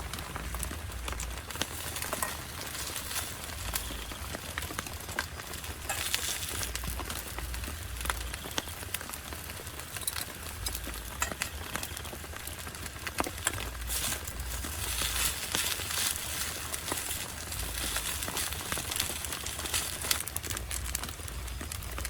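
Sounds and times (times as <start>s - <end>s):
heavy rain pattering on a tent: 0.0s - 22.0s.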